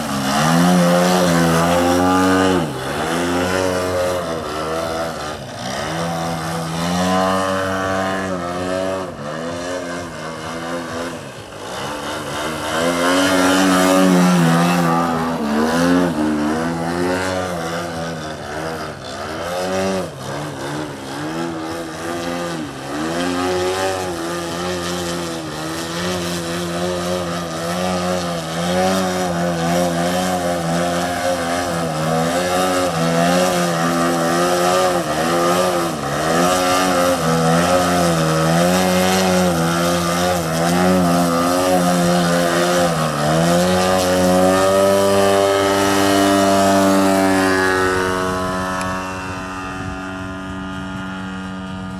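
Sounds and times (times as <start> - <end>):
model plane engine and propeller: 0.0 - 51.9.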